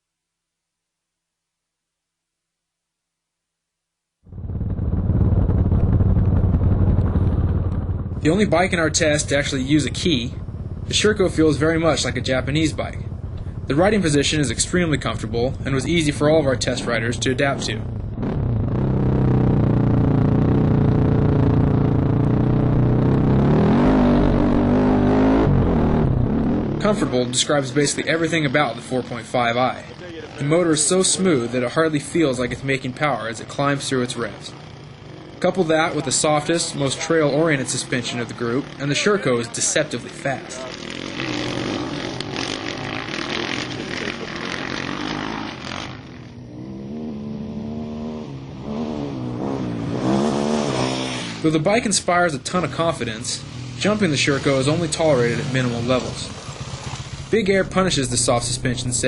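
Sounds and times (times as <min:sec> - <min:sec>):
dirt bike engine revving: 0:04.9 - 0:59.0.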